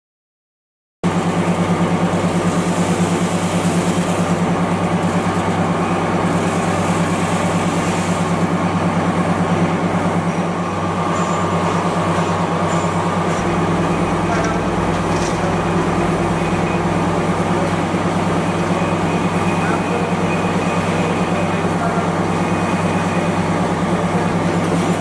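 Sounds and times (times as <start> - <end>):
oil press humming and throbbing: 1.0 - 25.0.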